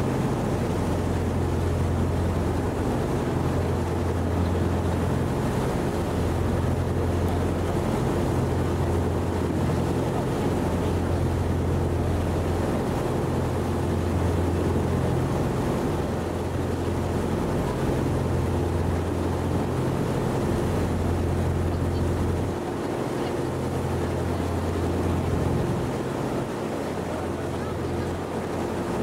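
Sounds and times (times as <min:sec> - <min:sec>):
boat engine drone: 0:00.0 - 0:29.0
water rushing: 0:00.0 - 0:29.0.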